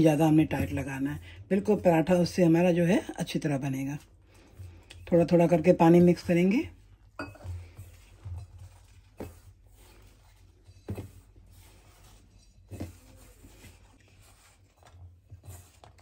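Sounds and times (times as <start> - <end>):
hand mixing dough: 0.0 - 16.0.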